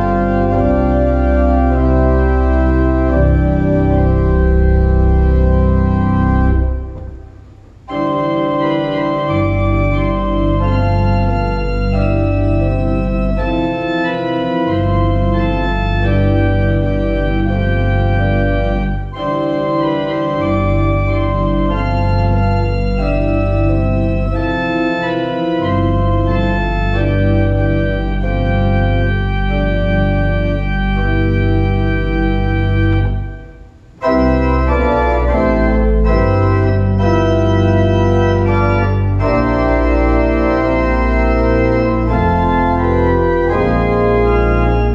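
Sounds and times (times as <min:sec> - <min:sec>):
organ playing hymn: 0:00.0 - 0:44.9.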